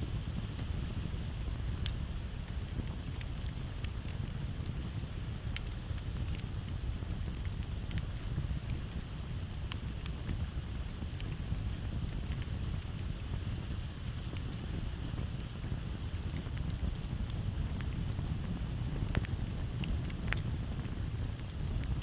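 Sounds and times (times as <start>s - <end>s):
campfire crackling and popping: 0.0s - 22.0s
crickets trilling: 0.0s - 22.0s
low steady rumble: 0.0s - 22.0s.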